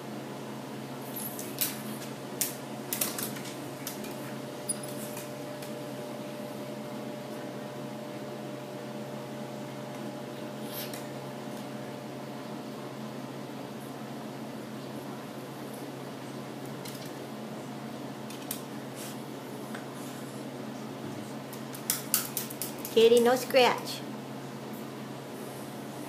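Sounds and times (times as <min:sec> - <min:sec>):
aquarium equipment humming: 0:00.0 - 0:26.0.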